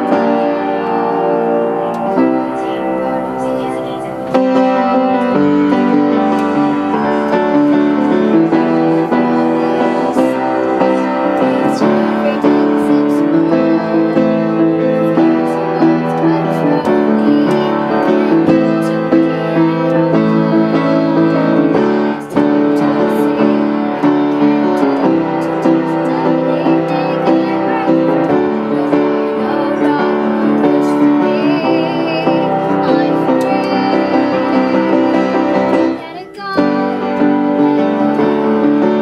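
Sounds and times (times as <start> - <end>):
piano duet: 0.0 - 39.0.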